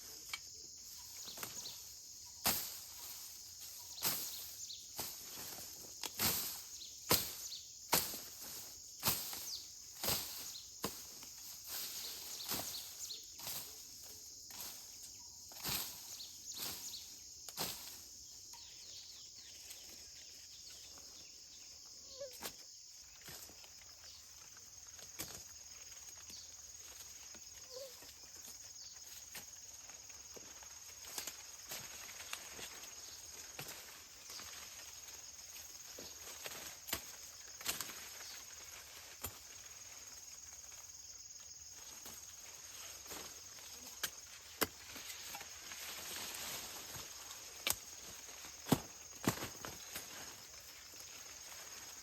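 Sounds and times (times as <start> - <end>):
crunches in dry grass and leaves: 0.0 - 52.0
high insect drone: 0.0 - 52.0.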